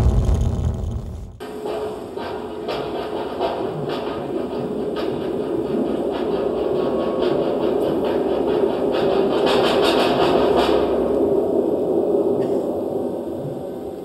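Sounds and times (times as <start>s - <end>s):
dense noisy electronic drone: 0.0s - 14.0s.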